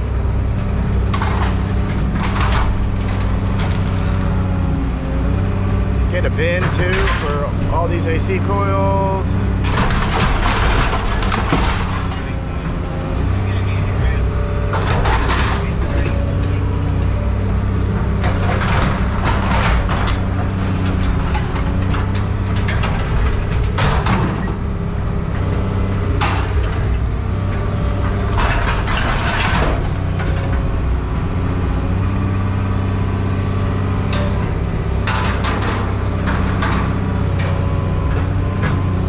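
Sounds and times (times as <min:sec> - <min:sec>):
heavy machine engine running: 0:00.0 - 0:39.0
scrap metal clattering and crunching: 0:00.0 - 0:39.0.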